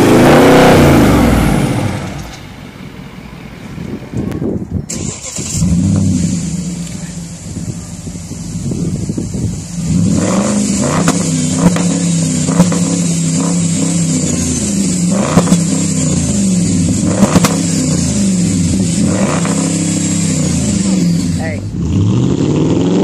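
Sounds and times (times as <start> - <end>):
diesel engine revving: 0.0 - 23.0.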